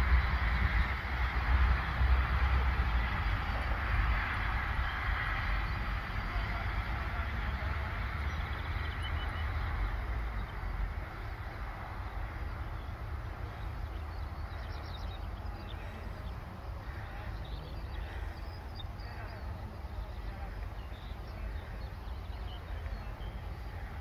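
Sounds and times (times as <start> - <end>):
low wind rumble: 0.0 - 24.0.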